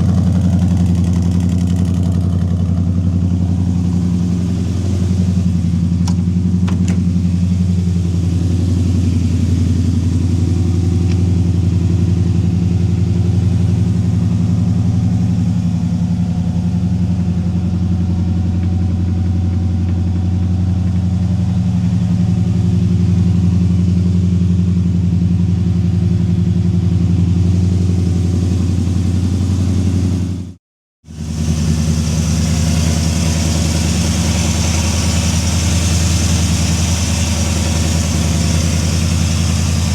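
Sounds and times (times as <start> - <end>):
car engine idling: 0.0 - 30.5, 31.1 - 39.9.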